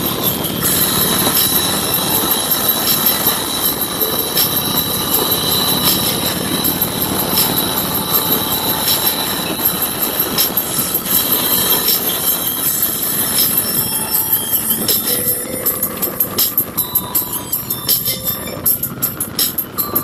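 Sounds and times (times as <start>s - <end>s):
motorcycle engines: 0.0s - 20.0s
road and wind noise: 0.0s - 20.0s.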